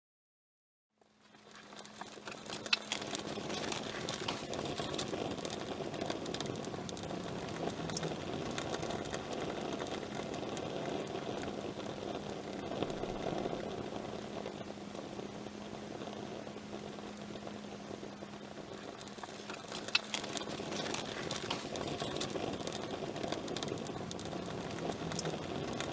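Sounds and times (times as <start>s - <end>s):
campfire burning: 1.0s - 25.9s
faint steady hum: 1.0s - 25.9s
fire crackles and pops: 1.0s - 25.9s.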